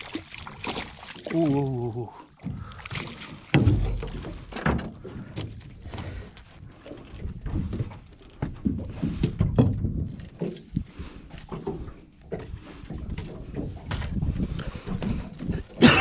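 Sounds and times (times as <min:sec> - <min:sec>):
knocks and thumps on boat: 0:00.0 - 0:16.0.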